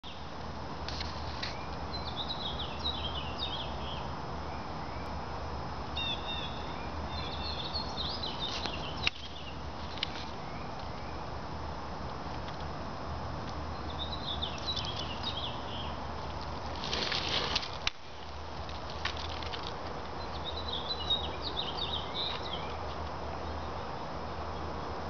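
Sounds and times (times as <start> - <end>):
small songbirds chirping: 0.0 - 0.3, 1.4 - 5.3, 5.9 - 11.4, 13.4 - 25.0
steady outdoor hiss: 0.0 - 25.0.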